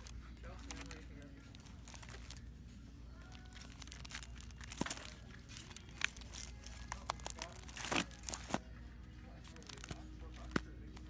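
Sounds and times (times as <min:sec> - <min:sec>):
crinkling and rustling handling: 0:00.0 - 0:11.0.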